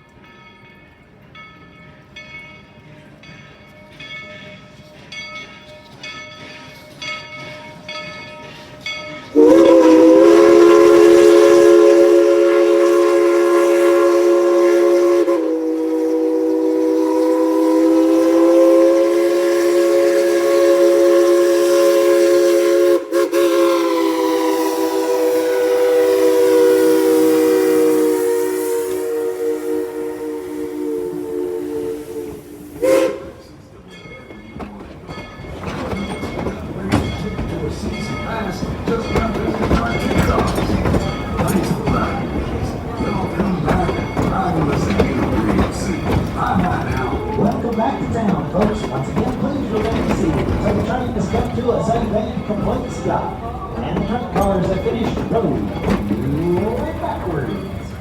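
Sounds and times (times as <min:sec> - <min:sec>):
locomotive bell ringing: 0:00.0 - 0:21.4, 0:32.8 - 0:58.0.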